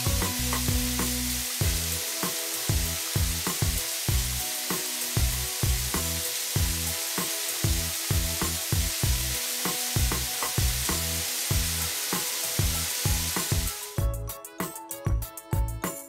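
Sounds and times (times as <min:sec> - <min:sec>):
hose nozzles spraying water: 0:00.0 - 0:14.0
background music with beat: 0:00.0 - 0:16.0.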